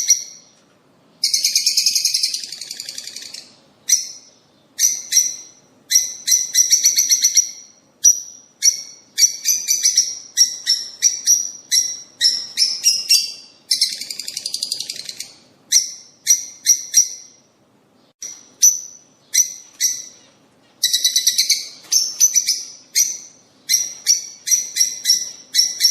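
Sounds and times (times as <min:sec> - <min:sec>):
songbird chirping and trilling: 0:00.0 - 0:00.6, 0:01.2 - 0:25.9.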